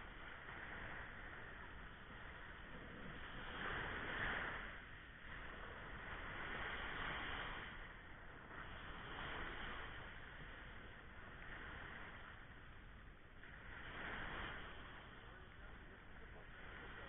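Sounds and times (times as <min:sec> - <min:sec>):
sea waves breaking: 0:00.0 - 0:17.0.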